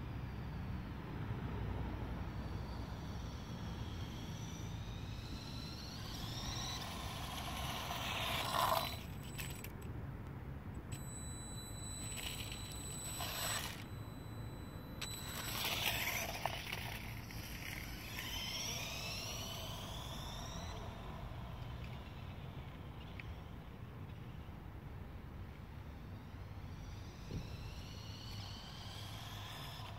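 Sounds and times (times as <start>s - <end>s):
small electric motors whining: 0.0s - 9.9s, 10.7s - 29.9s.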